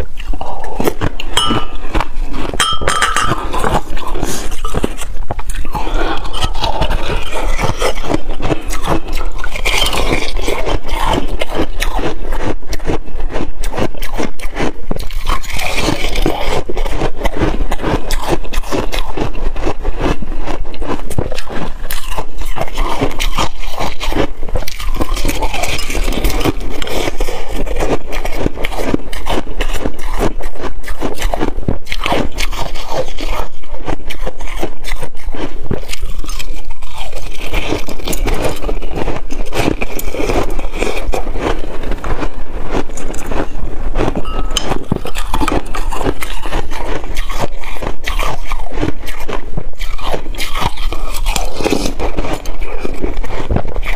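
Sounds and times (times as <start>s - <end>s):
ice being chewed crunching: 0.0s - 53.9s.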